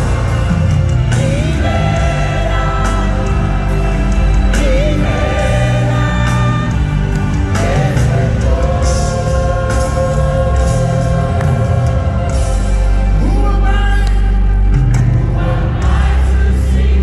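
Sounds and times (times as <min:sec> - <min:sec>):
band with deep bass: 0:00.0 - 0:17.0
singers holding wavering notes: 0:00.0 - 0:17.0.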